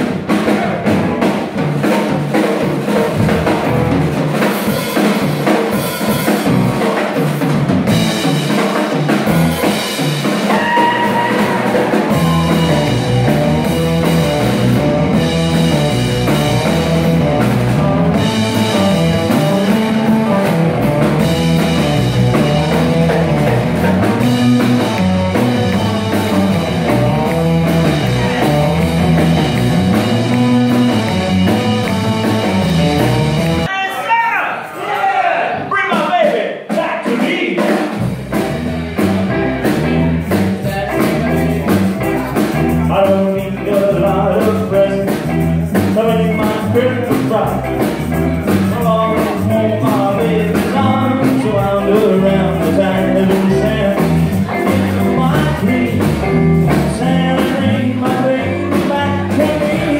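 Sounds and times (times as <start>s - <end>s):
walking bass line: 0.0s - 5.0s, 6.3s - 33.7s, 38.0s - 59.9s
drum kit: 0.0s - 59.9s
electric guitar: 2.5s - 33.7s, 37.9s - 59.9s.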